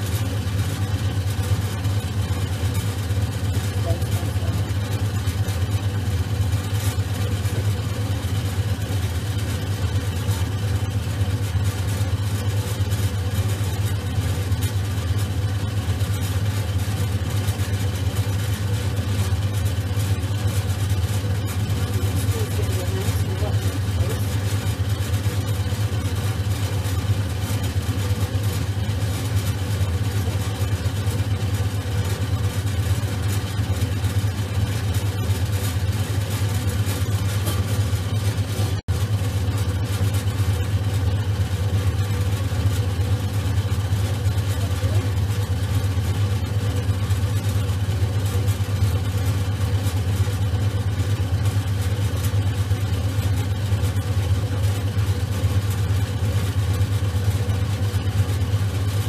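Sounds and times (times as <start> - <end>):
potter's wheel humming: 0.0 - 59.0.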